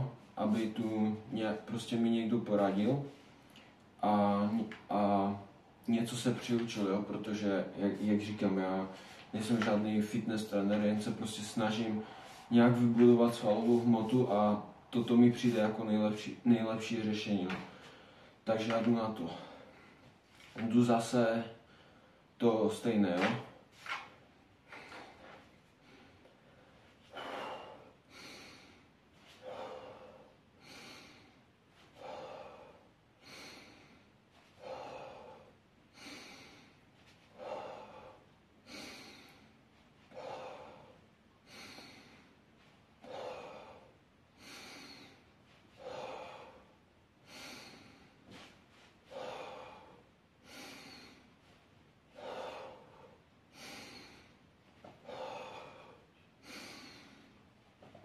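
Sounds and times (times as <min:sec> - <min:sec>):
heavy rhythmic breathing: 0:00.0 - 0:58.0.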